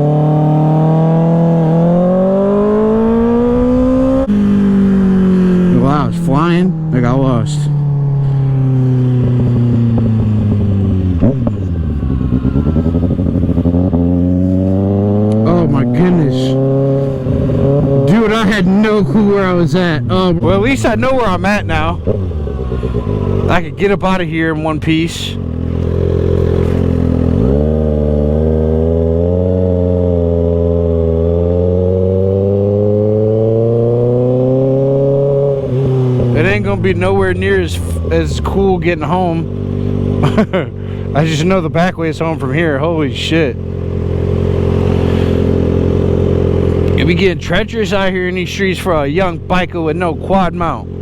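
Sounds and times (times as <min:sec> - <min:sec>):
motorcycle engine revs falling: 0:00.0 - 0:51.0.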